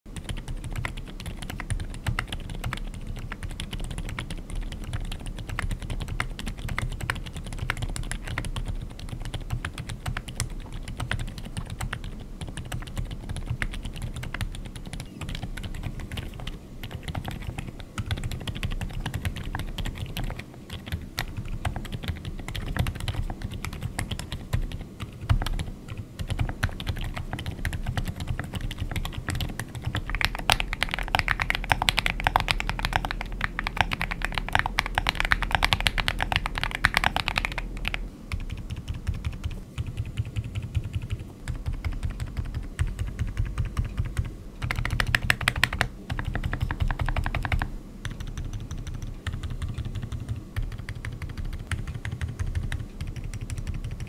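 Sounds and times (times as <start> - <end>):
fast typing on mechanical keyboard: 0.1 - 54.0.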